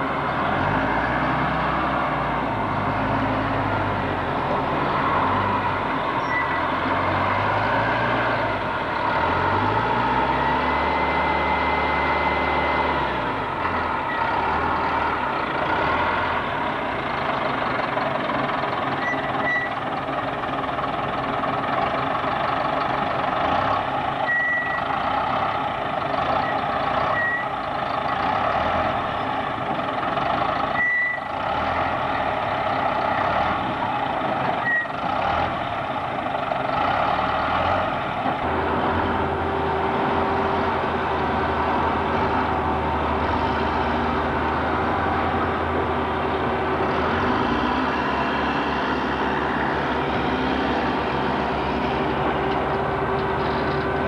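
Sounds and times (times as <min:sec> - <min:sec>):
heavy vehicles running: 0:00.0 - 0:54.0.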